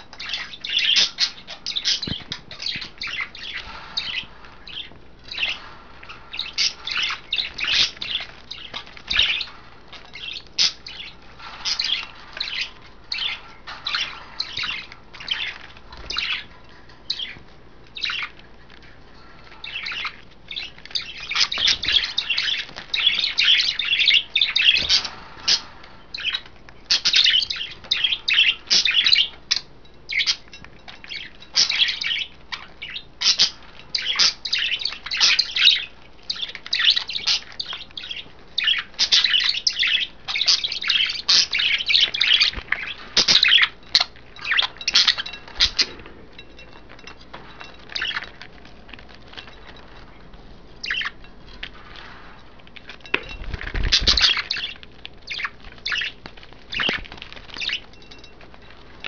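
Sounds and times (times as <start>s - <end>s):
budgerigars chattering: 0.2s - 16.5s, 19.6s - 30.5s, 31.1s - 46.0s, 48.0s - 48.3s, 50.8s - 51.2s, 53.4s - 57.9s.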